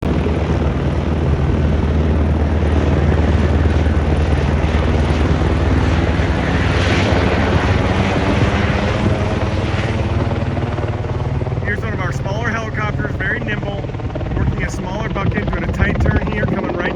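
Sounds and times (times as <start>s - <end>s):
helicopter rotor and turbine: 0.0s - 16.9s.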